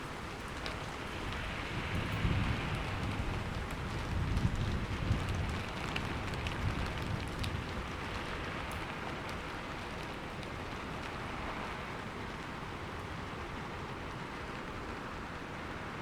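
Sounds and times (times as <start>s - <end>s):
heavy rain: 0.0s - 16.0s
rain drop ticks: 0.2s - 15.6s.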